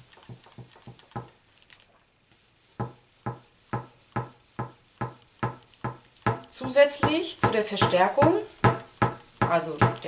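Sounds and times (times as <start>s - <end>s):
ironing board knocking on table: 0.2s - 1.4s, 2.8s - 10.0s.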